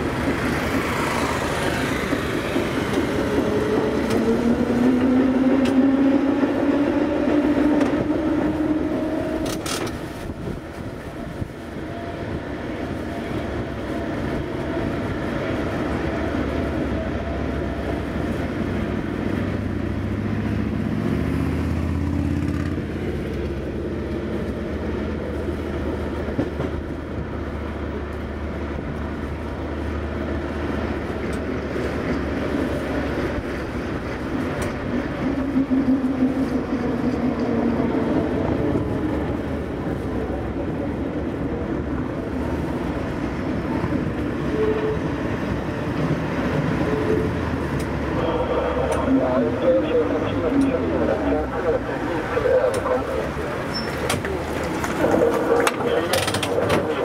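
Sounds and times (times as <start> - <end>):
rail clicks: 0.0 - 19.8, 30.3 - 49.2, 49.8 - 57.0
tram wheels rolling on rails: 0.0 - 57.0.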